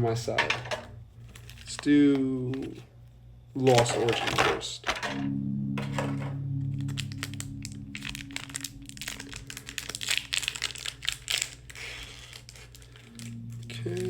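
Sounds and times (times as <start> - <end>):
foil wrapper crinkling: 1.1 - 2.8, 3.6 - 5.1, 5.8 - 14.0.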